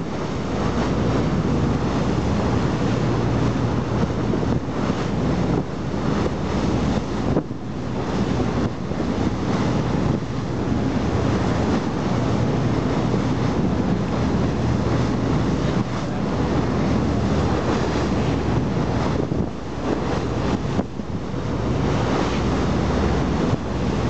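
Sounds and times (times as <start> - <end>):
sea surf: 0.0 - 24.0
wind buffeting microphone: 0.0 - 24.0.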